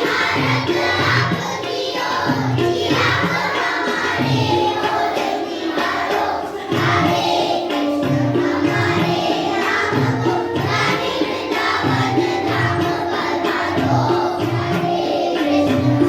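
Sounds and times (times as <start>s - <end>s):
group singing in chorus: 0.0s - 16.0s
steady drum beat: 0.0s - 16.0s.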